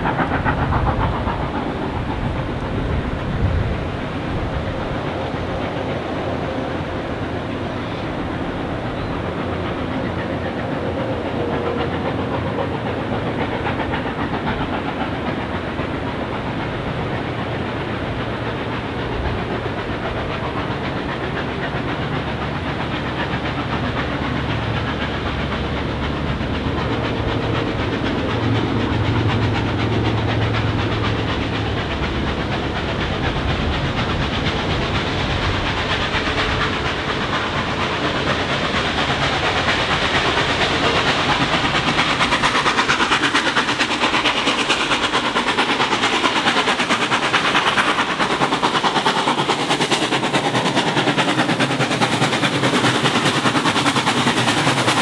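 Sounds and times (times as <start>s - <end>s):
steam locomotive exhaust: 0.0s - 55.0s.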